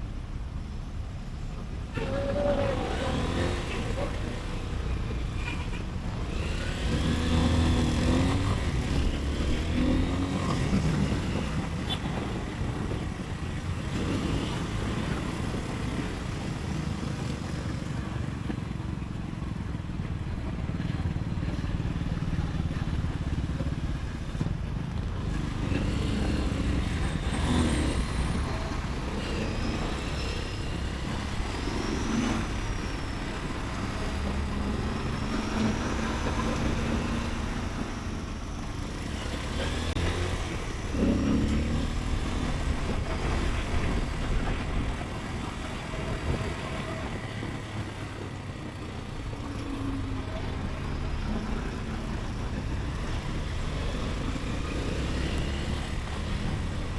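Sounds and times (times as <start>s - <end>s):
motorcycle engine: 0.0s - 56.9s
road noise: 0.0s - 56.9s.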